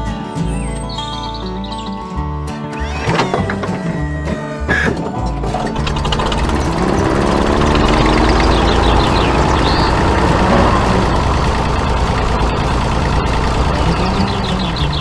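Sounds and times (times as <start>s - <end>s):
tractor engine droning: 2.8s - 15.0s.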